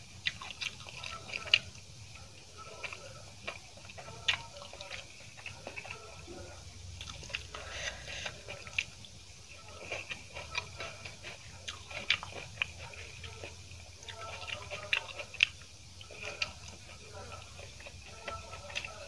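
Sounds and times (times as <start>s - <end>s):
close-up chewing: 0.0s - 19.0s.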